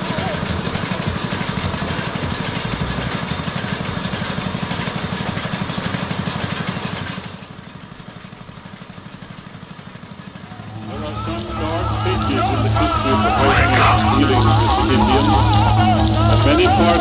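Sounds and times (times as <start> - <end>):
engine running with rapid pulse: 0.0 - 17.0.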